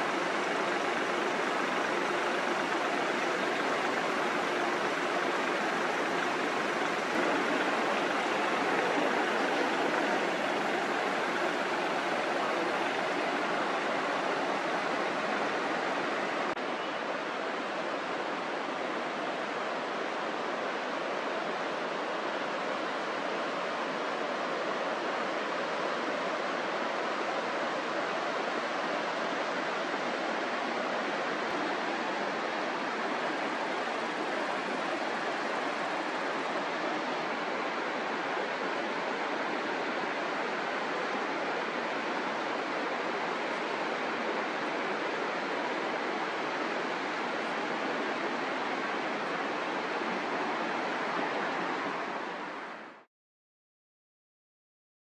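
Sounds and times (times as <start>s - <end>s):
river water rushing: 0.0s - 53.1s.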